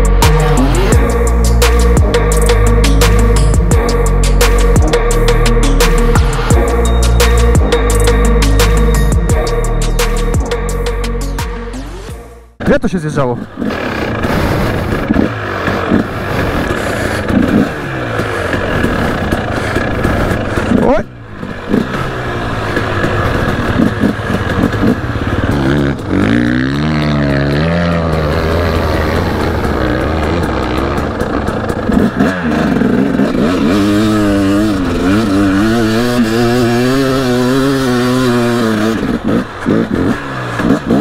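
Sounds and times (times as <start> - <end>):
motorcycle engine revving hard: 0.0 - 9.2, 13.4 - 41.0.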